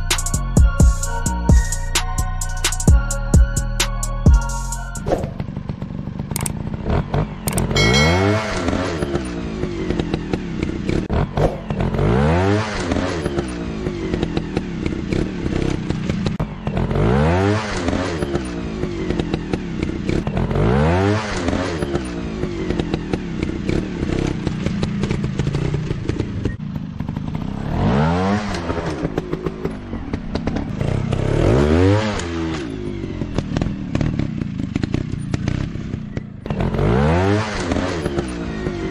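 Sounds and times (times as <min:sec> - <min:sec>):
dirt bike engine revving: 0:05.0 - 0:38.9.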